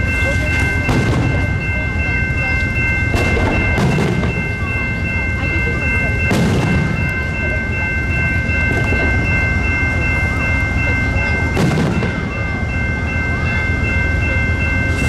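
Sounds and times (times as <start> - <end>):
crossing bell ringing: 0.0 - 15.0
train cars rumbling past: 0.0 - 15.0.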